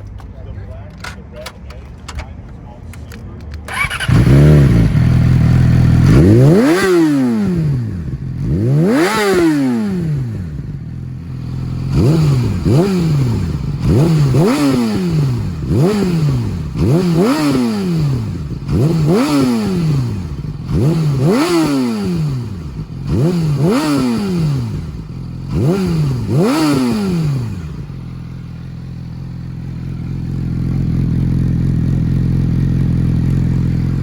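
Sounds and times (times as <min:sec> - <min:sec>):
motorcycle engine idling: 0:03.7 - 0:34.0
motorcycle engine revving: 0:03.7 - 0:34.0.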